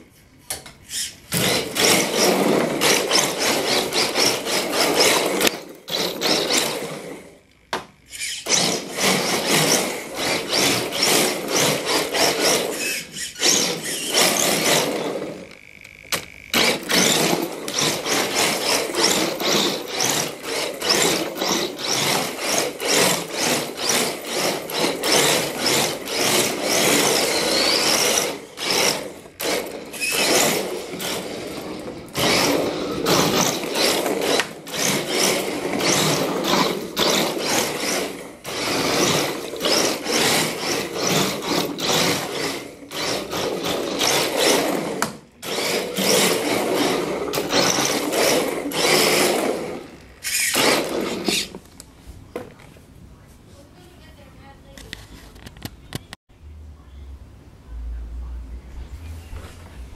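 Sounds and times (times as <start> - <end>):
toy car tyres scrubbing on wood: 0.9 - 7.3, 8.1 - 15.6, 16.6 - 51.7
electric motor whine: 1.3 - 51.5.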